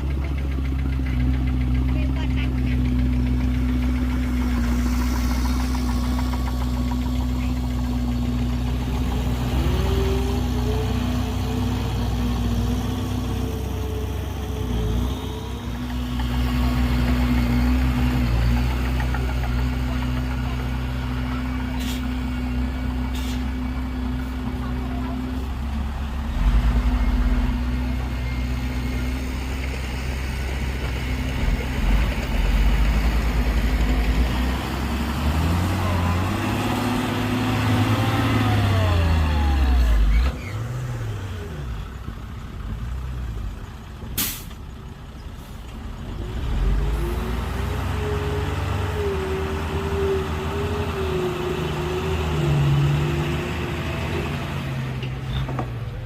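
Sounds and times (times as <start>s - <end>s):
diesel machine engine running: 0.0s - 56.0s.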